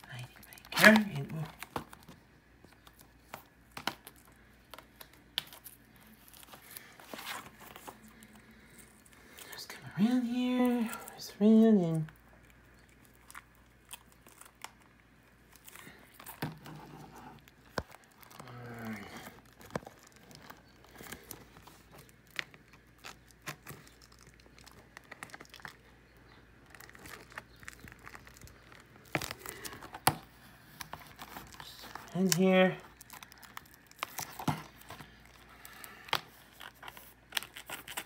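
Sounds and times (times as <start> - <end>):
plastic packaging crinkling and tearing: 0.1 - 38.0.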